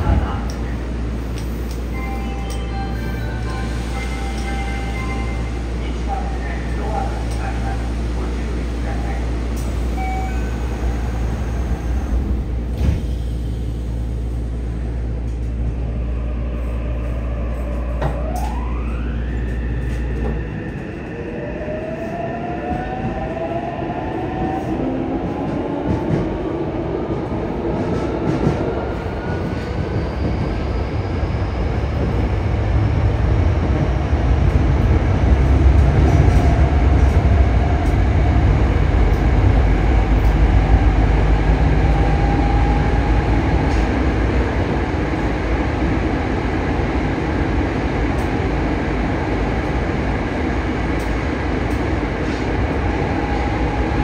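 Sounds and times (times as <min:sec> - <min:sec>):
rumble of train wheels: 0:00.0 - 0:54.0.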